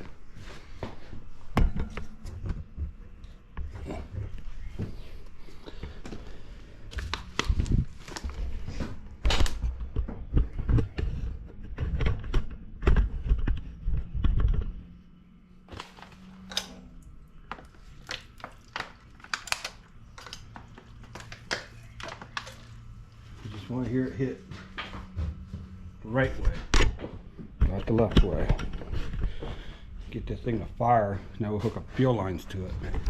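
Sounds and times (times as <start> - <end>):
faint hum: 0.0 - 33.0.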